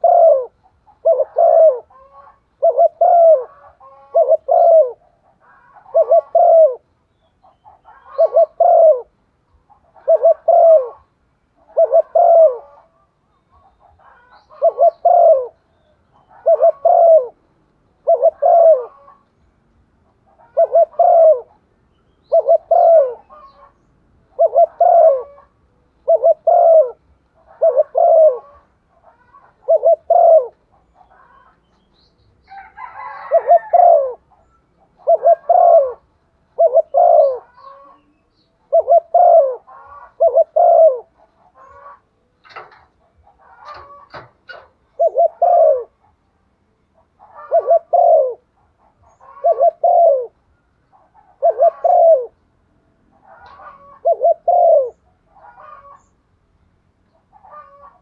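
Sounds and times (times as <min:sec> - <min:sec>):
rough dove call: 0:00.0 - 0:06.8, 0:07.6 - 0:09.1, 0:09.7 - 0:17.4, 0:18.0 - 0:19.2, 0:20.3 - 0:31.6, 0:32.5 - 0:38.1, 0:38.7 - 0:46.0, 0:47.1 - 0:52.4, 0:53.2 - 0:56.1
dove cooing: 0:00.0 - 0:19.3, 0:20.1 - 0:31.8, 0:32.5 - 0:46.2, 0:46.9 - 0:52.4, 0:53.1 - 0:56.1, 0:57.2 - 0:58.0.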